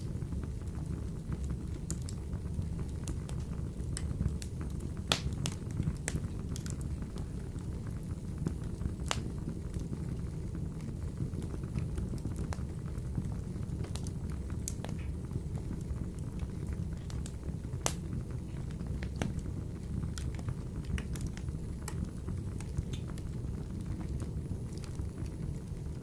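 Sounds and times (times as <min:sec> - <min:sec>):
fire crackling and popping: 0:00.0 - 0:26.0
fire rumbling in stove: 0:00.0 - 0:26.0.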